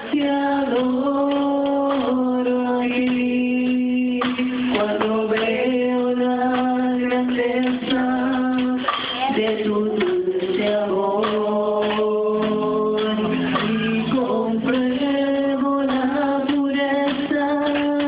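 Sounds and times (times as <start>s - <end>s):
congregation singing a worship song: 0.0s - 18.0s.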